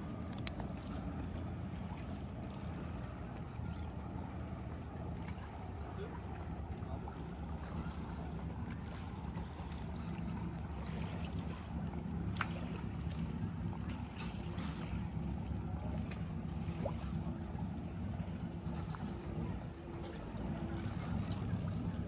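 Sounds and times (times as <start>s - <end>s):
boat engine drone: 0.0s - 22.0s
water rushing alongside boat: 0.0s - 22.0s.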